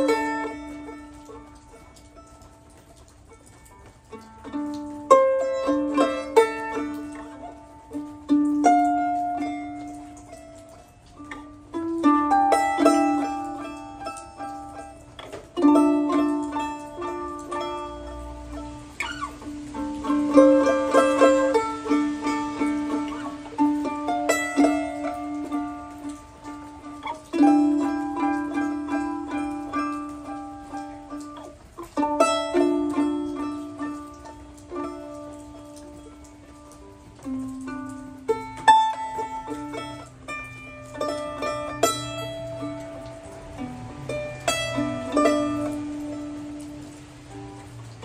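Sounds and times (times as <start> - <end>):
mandolin melody: 0.0 - 48.0.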